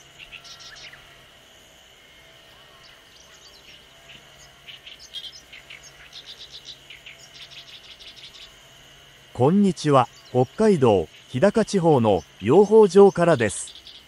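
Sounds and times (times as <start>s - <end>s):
birds chirping: 0.0s - 14.0s
faint low hum: 0.0s - 14.0s
high insect drone: 0.0s - 14.0s.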